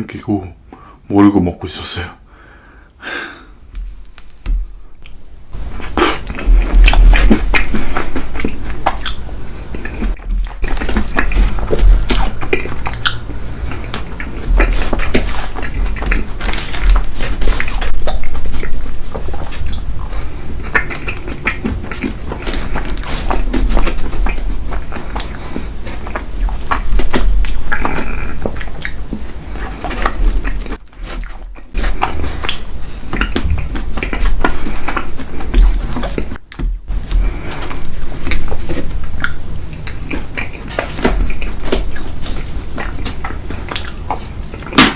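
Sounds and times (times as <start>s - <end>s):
chewing: 5.0s - 44.9s.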